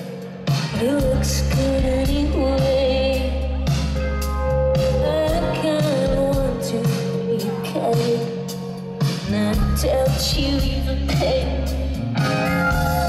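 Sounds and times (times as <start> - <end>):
woman singing into a microphone: 0.0 - 3.9, 4.7 - 13.0
backing band: 0.0 - 13.0
electric guitar: 0.0 - 13.0.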